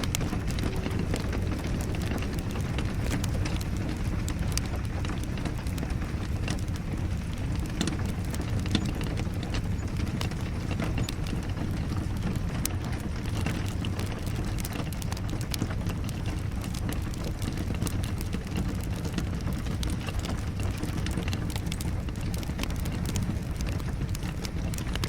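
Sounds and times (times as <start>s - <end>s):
rain: 0.0s - 25.0s
wood fire crackling: 0.0s - 25.0s.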